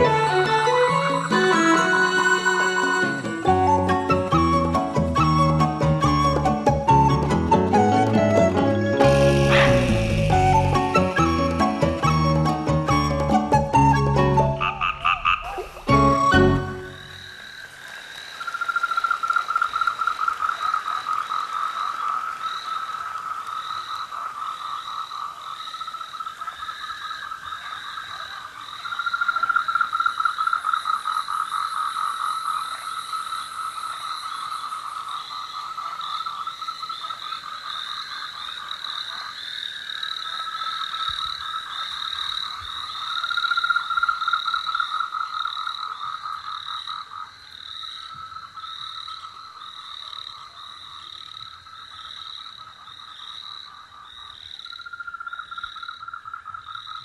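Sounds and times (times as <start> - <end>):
frogs calling in pulsed trills: 8.8 - 57.0.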